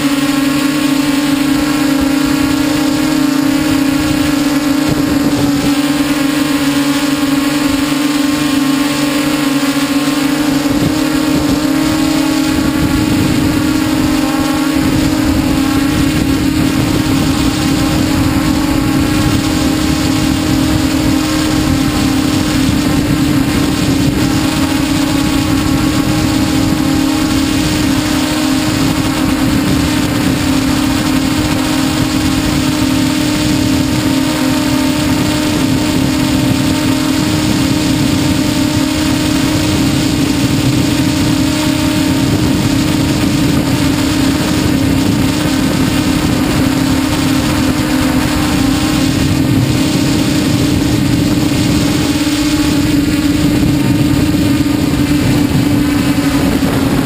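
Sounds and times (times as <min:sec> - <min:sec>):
drone propellers buzzing hum: 0:00.0 - 0:57.0
low rushing noise: 0:00.0 - 0:57.0.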